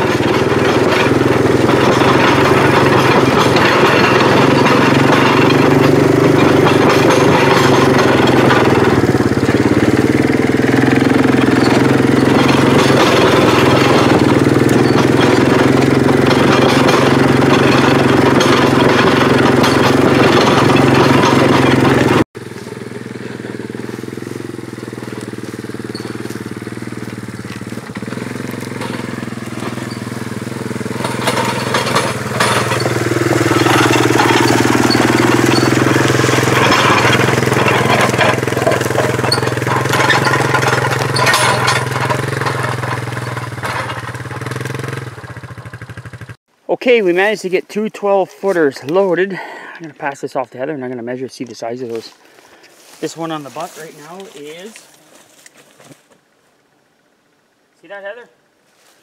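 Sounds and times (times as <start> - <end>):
atv engine running: 0.0 - 46.4, 48.4 - 50.7, 51.6 - 56.0.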